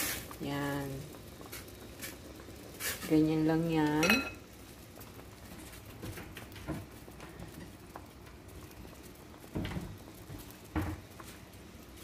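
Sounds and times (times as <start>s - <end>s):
small bubbles ticking and popping: 0.0s - 12.0s.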